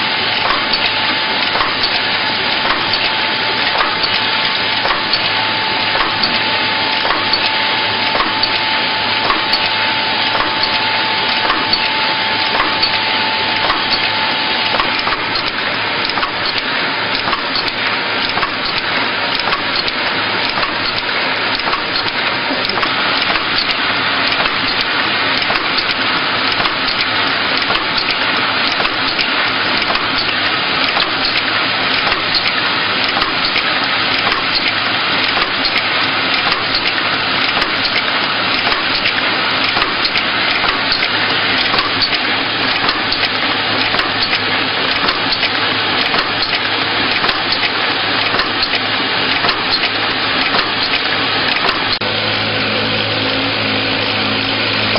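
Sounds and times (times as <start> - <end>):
machine clatter of small clicks: 0.0 - 52.0
motor hum: 0.0 - 54.9.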